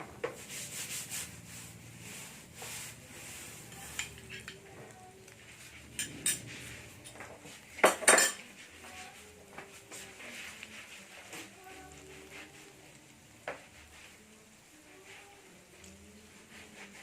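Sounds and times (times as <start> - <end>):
utensil scraping cooking pan: 0.0 - 17.0.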